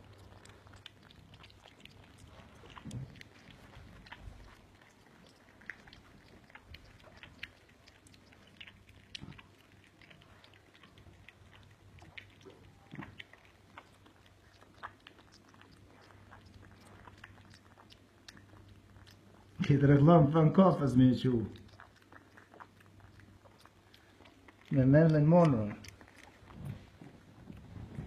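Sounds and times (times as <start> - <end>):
puppies clicking and smacking: 0.0 - 28.0
steady low hum: 0.0 - 28.0.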